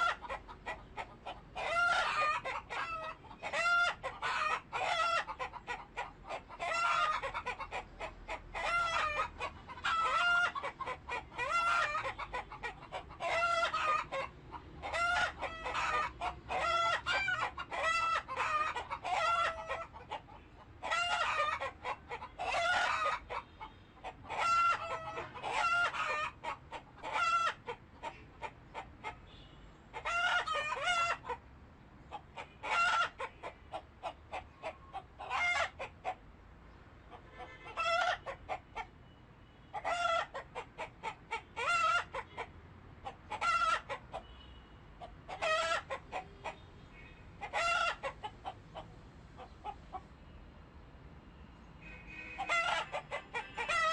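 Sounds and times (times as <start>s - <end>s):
chickens clucking and calling: 0.0s - 29.3s, 29.9s - 50.3s, 52.2s - 53.9s.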